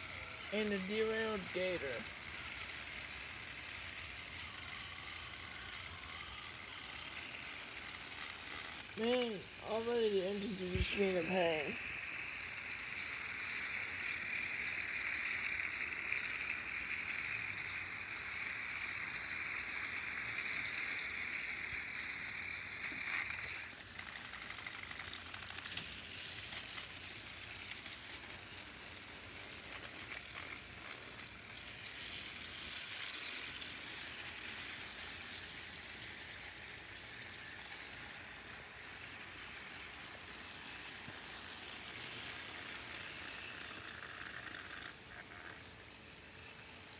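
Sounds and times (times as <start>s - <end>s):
toy train motors whirring: 0.0s - 46.9s
toy train wheels clicking: 0.0s - 46.9s.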